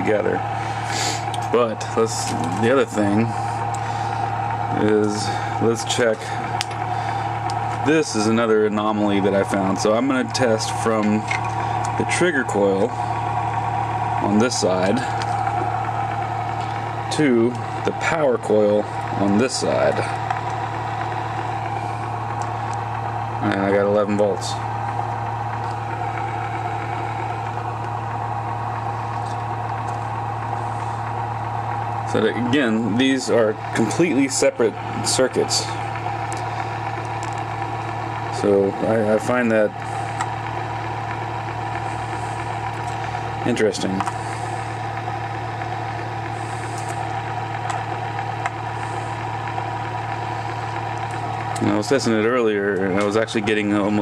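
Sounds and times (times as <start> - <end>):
motor humming: 0.0 - 54.0.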